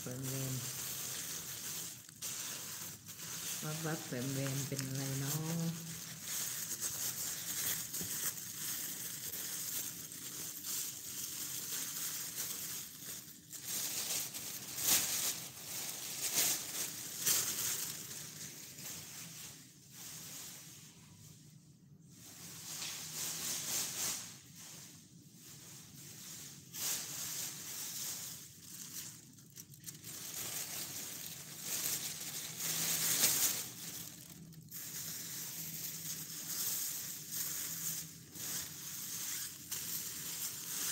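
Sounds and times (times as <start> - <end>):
plastic bags rustling: 0.0 - 40.9.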